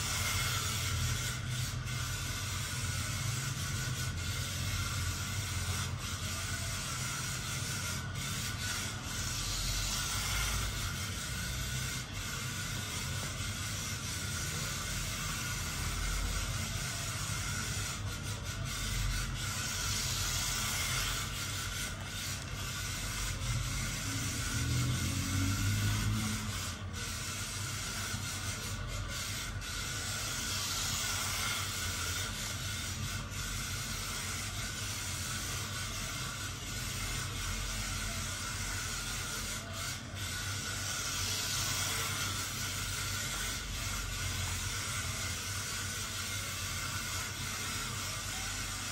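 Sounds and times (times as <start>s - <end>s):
small electric motor whirring: 0.0s - 48.9s.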